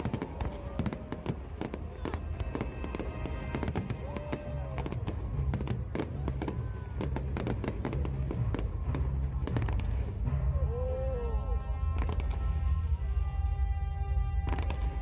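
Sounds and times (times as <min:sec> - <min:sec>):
fireworks bursting and crackling: 0:00.0 - 0:10.3, 0:12.0 - 0:13.2, 0:14.5 - 0:15.0.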